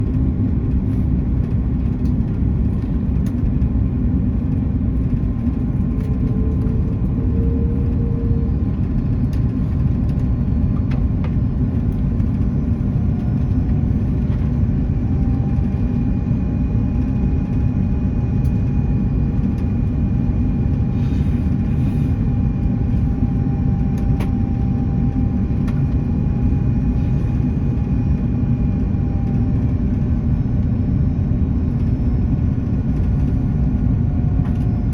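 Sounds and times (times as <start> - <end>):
aircraft cabin rumble: 0.0 - 34.9
faint steady whines: 0.0 - 34.9.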